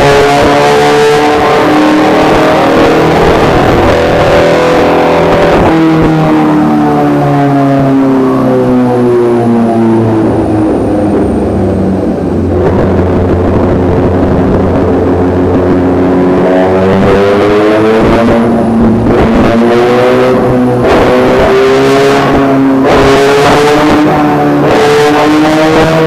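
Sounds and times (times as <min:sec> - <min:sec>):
motorcycle engine running hard: 0:00.0 - 0:26.0.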